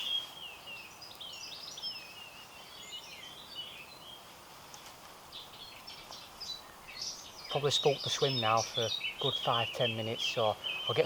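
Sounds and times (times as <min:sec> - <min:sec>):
faint outdoor background noise: 0:00.0 - 0:11.0
small birds chirping and warbling: 0:00.0 - 0:11.0.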